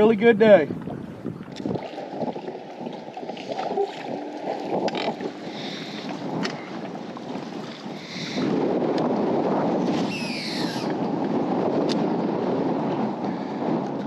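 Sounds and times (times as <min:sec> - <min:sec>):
wind and water rumbling hiss: 0:00.0 - 0:14.0.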